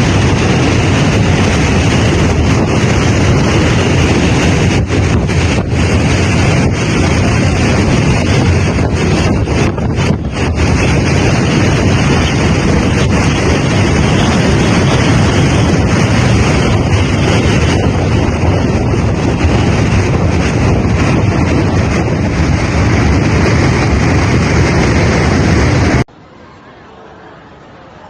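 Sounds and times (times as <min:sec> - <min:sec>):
strong wind buffeting microphone: 0:00.0 - 0:26.1.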